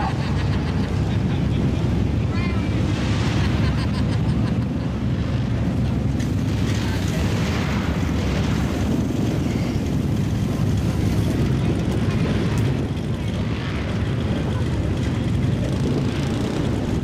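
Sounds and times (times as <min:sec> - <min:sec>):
large vehicle engine droning: 0:00.0 - 0:17.0.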